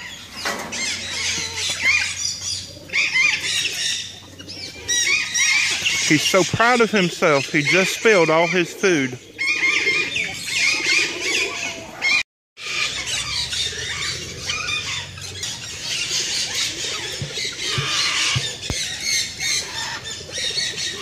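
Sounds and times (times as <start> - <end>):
birds chirping and squawking: 0.0 - 21.0.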